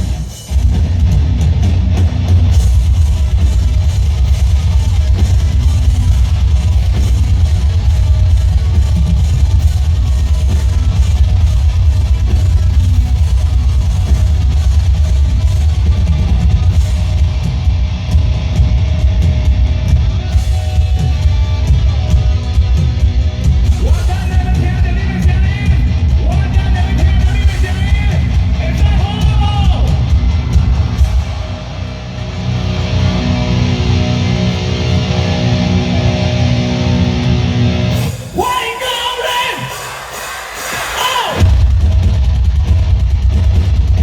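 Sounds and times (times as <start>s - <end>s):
distorted electric guitars: 0.0s - 44.0s
drum kit: 0.0s - 44.0s
heavy bass: 0.0s - 44.0s.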